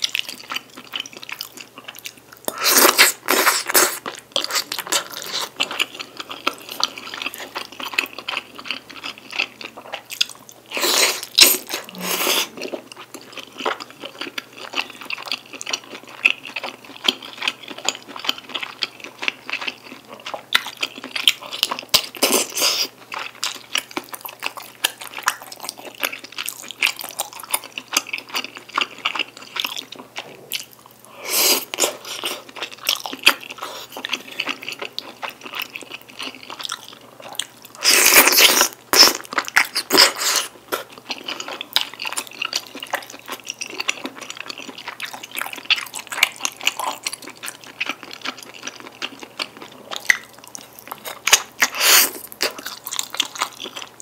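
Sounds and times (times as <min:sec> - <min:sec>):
close-miked wet chewing: 0:00.0 - 0:54.0.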